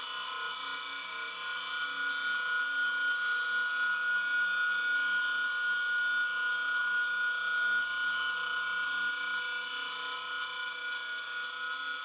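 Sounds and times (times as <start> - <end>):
high-pitched electronic drone: 0.0 - 12.0.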